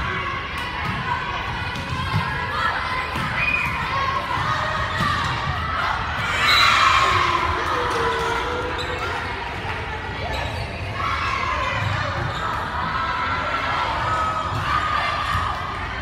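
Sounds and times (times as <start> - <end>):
people calling out and chattering: 0.0 - 16.0.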